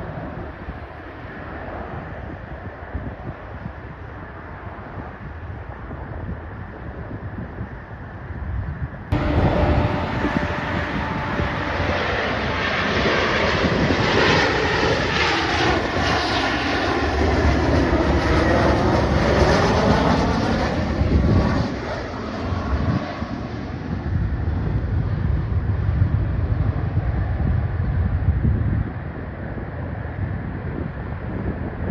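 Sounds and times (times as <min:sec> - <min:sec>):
airplane engines passing: 0:00.0 - 0:31.9.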